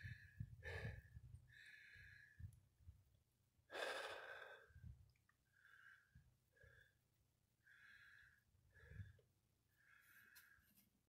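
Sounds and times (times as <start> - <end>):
man breathing: 0.0 - 2.6, 3.7 - 10.8.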